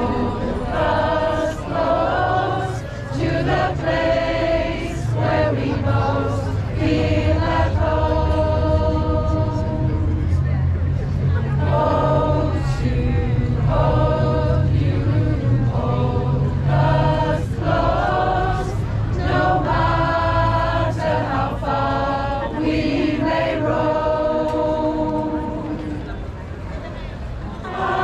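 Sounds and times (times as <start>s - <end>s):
choir singing: 0.0s - 10.5s, 11.4s - 26.2s, 27.6s - 28.0s
steady low rumble: 0.0s - 28.0s.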